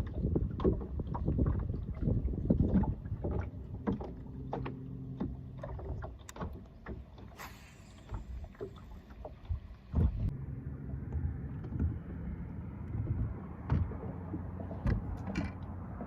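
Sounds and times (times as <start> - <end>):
boat engine rumble: 0.0 - 16.0.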